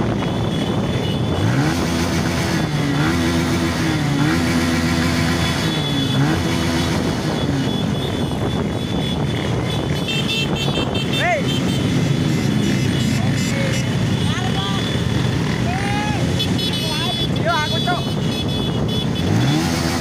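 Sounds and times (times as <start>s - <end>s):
motorcycle engine revving: 0.0s - 20.0s
motorcycle engines running: 0.0s - 20.0s.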